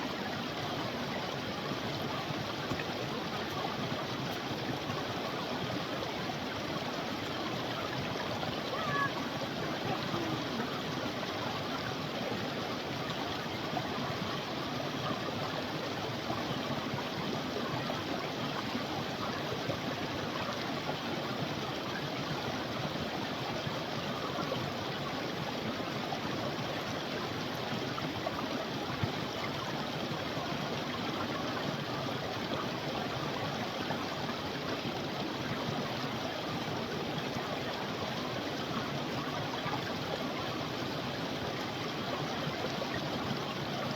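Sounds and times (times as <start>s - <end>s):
creek water flowing over rocks: 0.0s - 43.9s.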